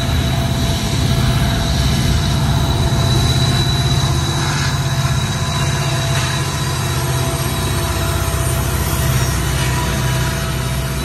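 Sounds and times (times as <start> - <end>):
diesel locomotive rumbling: 0.0 - 11.0
faint high whine: 0.0 - 11.0.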